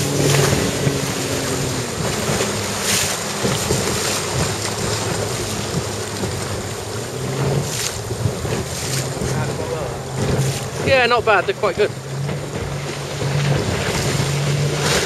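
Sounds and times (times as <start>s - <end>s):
boat engine humming: 0.0s - 15.0s
water rushing against hull: 0.0s - 15.0s
wind buffeting microphone: 0.0s - 15.0s.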